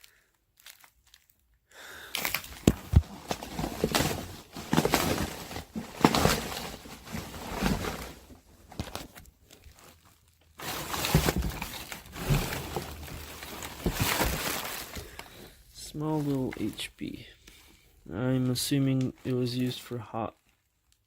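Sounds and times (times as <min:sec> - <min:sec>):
packaging crinkling and rustling: 0:00.0 - 0:17.7.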